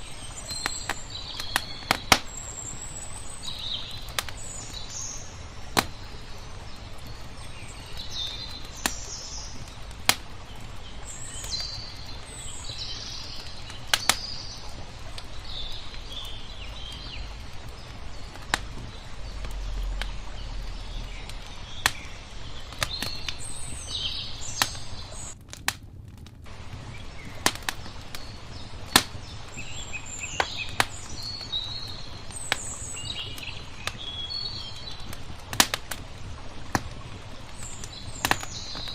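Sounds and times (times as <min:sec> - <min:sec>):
small birds chirping: 0:00.0 - 0:25.4, 0:26.5 - 0:38.9
wood fire crackling and popping: 0:00.0 - 0:38.9.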